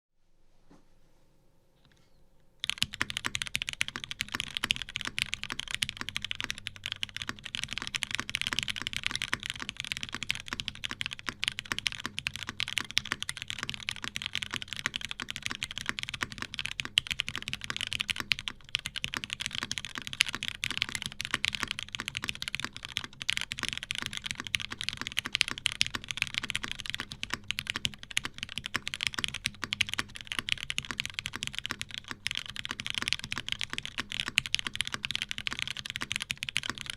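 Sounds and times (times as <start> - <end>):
fast typing on mechanical keyboard: 2.6 - 36.9.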